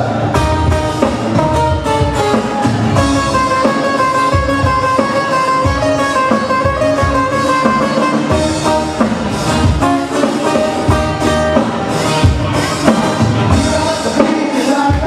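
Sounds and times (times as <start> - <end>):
live band playing instrumental: 0.0 - 15.0.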